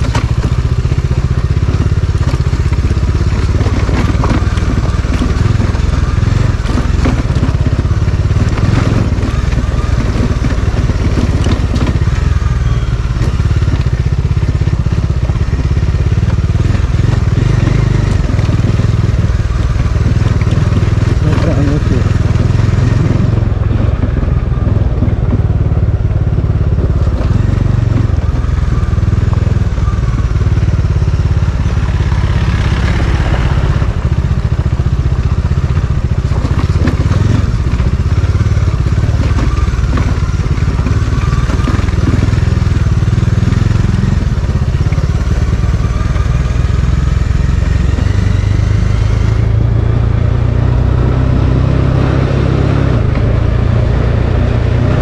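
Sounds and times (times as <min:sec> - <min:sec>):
low rumble: 0:00.0 - 0:55.0
vehicle engine running: 0:00.0 - 0:55.0.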